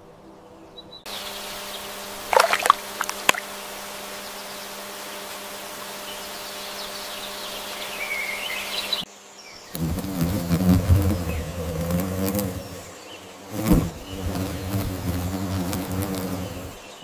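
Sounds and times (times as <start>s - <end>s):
steady hiss: 1.1s - 17.0s.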